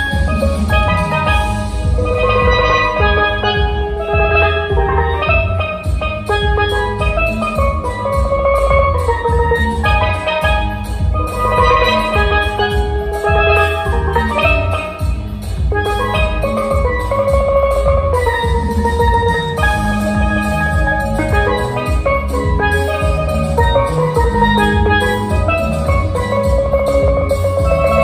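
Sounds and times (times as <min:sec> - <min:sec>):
backing track with bass and drums: 0:00.0 - 0:28.0
steelpan melody: 0:00.0 - 0:28.0.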